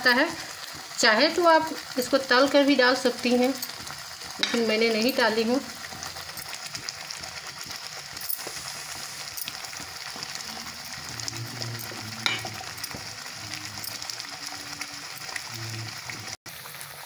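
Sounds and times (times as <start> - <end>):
gravy bubbling and sizzling: 0.0 - 17.0.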